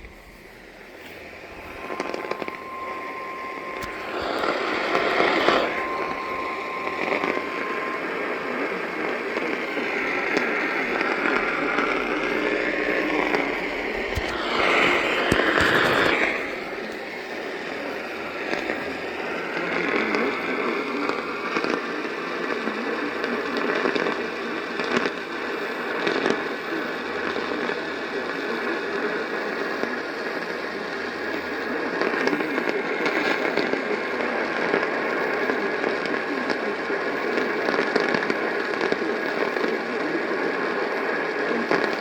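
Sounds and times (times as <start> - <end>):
radio static hiss and crackling: 0.0 - 42.0.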